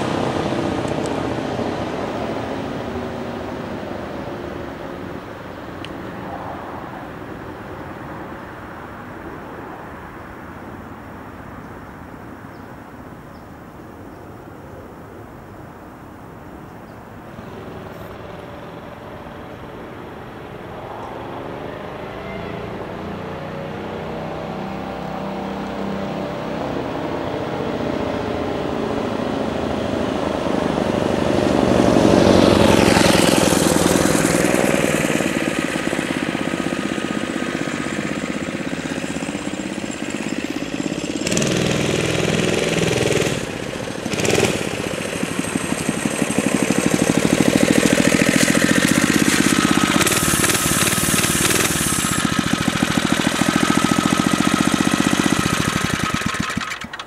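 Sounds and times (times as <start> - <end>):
mini bike engine passing: 0.0 - 9.5, 17.3 - 57.0.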